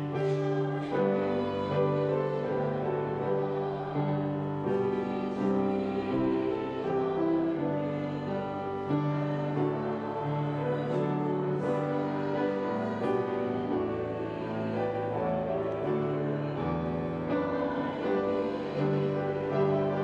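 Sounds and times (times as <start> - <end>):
congregation singing: 0.0 - 20.0
hymn on grand piano: 0.0 - 20.0.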